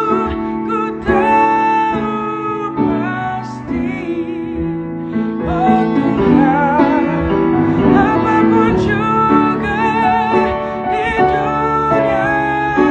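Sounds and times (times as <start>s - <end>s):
man singing with vibrato: 0.0s - 12.9s
piano accompaniment: 0.0s - 12.9s.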